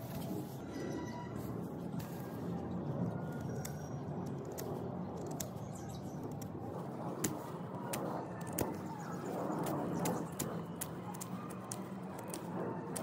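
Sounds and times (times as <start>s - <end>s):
low outdoor hum: 0.0s - 13.0s.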